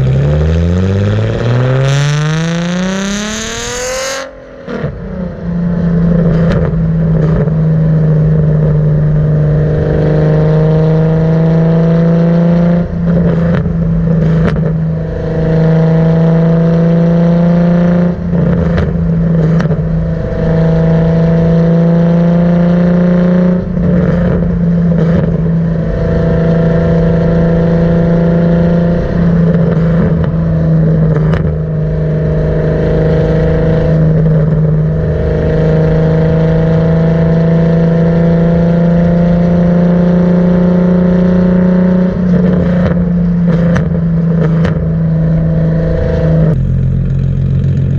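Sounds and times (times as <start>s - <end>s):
car exhaust while driving: 0.0s - 47.9s.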